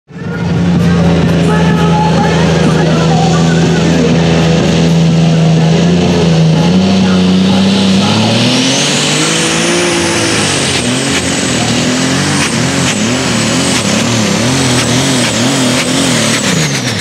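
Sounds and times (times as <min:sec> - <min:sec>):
high whine: 0:00.1 - 0:17.0
tractor engine at full throttle: 0:00.1 - 0:17.0.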